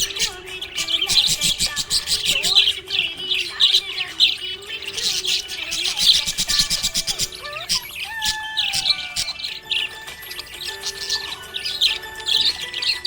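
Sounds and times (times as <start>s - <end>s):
budgerigar chirps and warbles: 0.0s - 13.0s.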